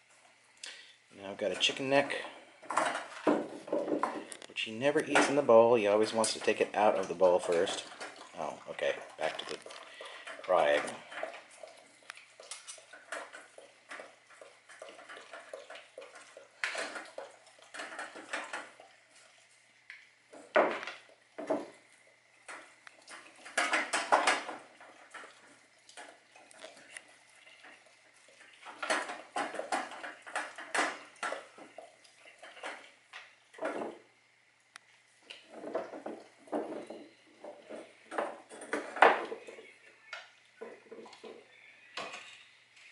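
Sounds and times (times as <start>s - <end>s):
dog eating from metal bowl: 0.0s - 34.1s, 35.2s - 42.9s.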